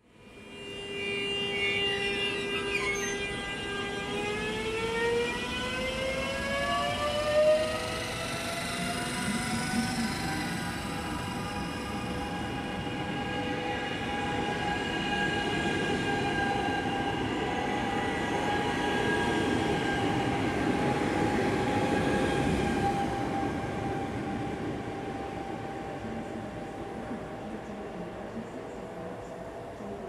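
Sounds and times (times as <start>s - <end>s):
electric train whine: 0.0s - 30.0s.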